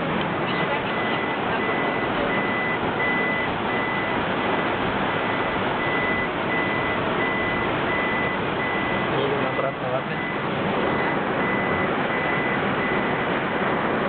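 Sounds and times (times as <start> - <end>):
heavy rain drumming on car roof: 0.0 - 14.0
high electronic beeps: 0.9 - 4.2, 5.2 - 13.4.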